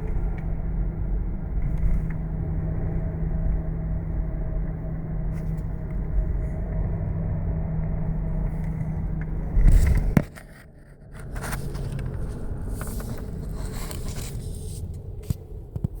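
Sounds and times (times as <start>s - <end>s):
car road rumble: 0.0s - 16.0s
wheel bearing hum: 0.0s - 16.0s.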